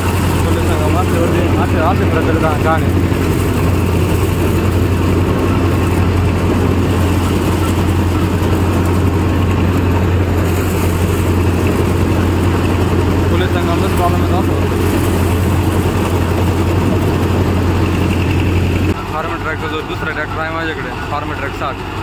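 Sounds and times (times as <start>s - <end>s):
diesel tractor engine running: 0.0s - 22.0s.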